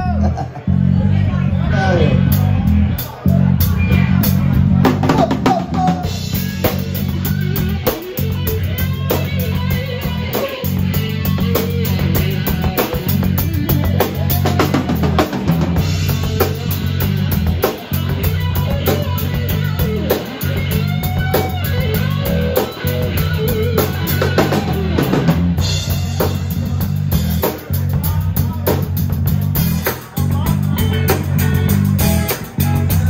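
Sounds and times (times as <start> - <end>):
bass guitar: 0.0 - 33.0
electric guitar: 0.0 - 33.0
drum kit: 2.1 - 33.0.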